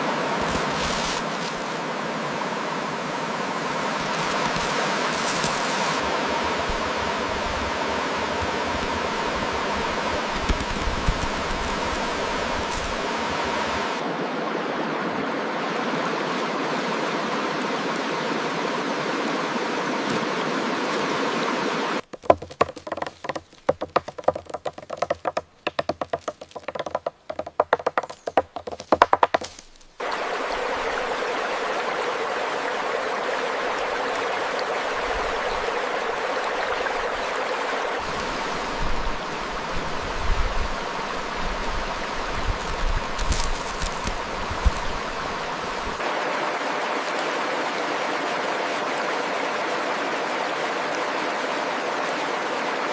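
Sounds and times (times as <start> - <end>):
running water rushing: 0.0 - 52.9.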